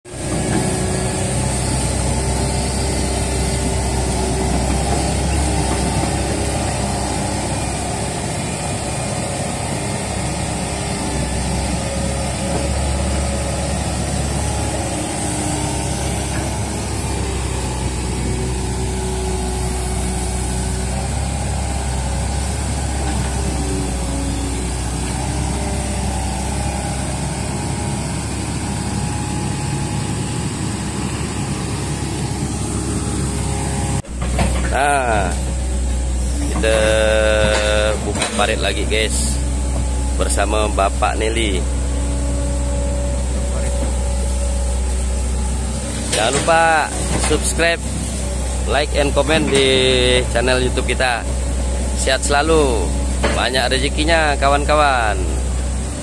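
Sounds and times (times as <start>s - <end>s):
excavator diesel engine running: 0.1s - 56.0s.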